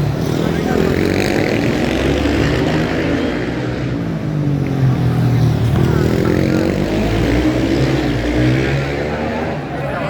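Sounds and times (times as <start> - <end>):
motorcycle engines racing: 0.0 - 10.0.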